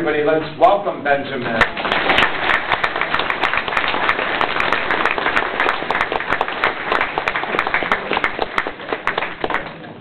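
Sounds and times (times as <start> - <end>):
crowd applauding: 1.6 - 10.0.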